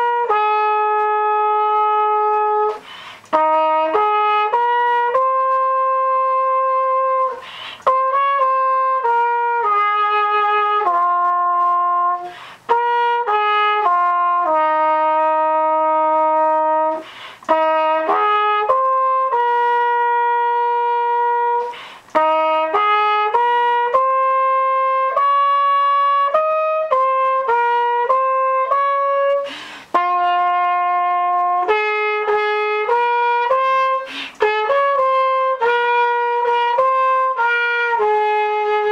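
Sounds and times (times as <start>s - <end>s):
solo trumpet melody: 0.0s - 38.9s.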